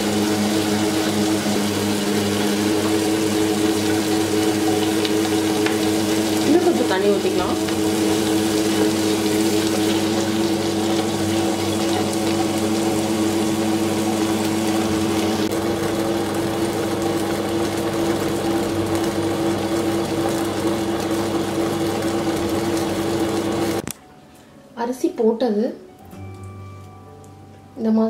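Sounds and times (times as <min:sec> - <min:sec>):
wet grinder grinding rice: 0:00.0 - 0:23.8.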